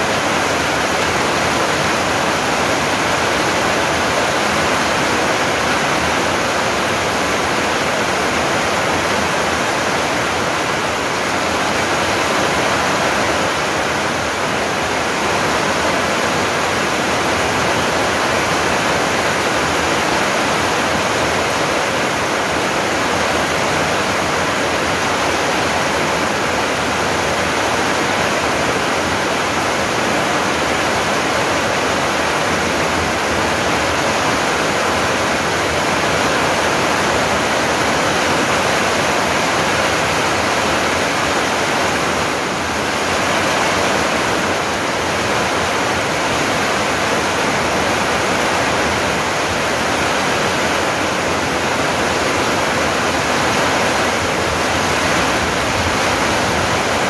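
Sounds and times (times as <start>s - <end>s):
heavy rain on trees: 0.0s - 57.0s.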